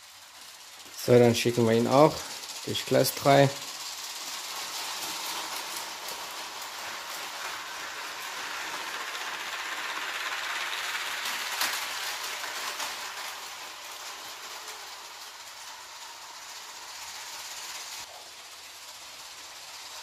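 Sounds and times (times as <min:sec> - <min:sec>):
toy train wheels whirring rattle: 0:00.0 - 0:20.0.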